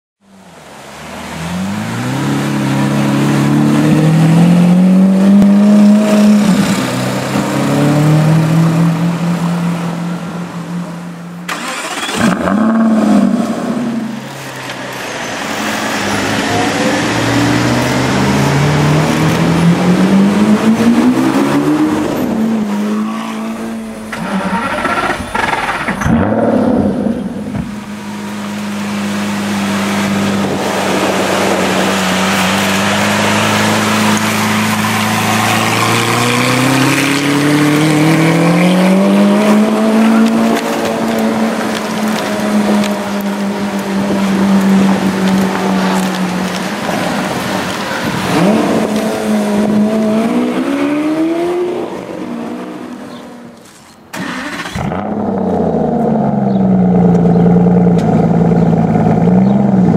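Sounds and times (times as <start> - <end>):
car engine revving: 0.8 - 59.9.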